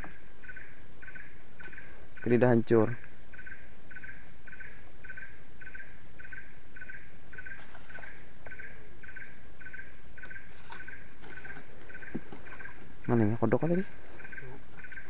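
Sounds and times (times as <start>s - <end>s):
faint high insect whine: 0.0s - 15.0s
insect repeating pulsed note: 0.0s - 15.0s.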